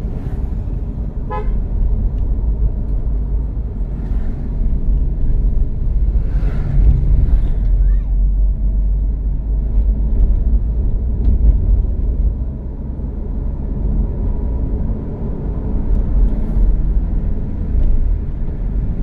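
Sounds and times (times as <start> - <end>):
vehicle driving on road: 0.0 - 19.0.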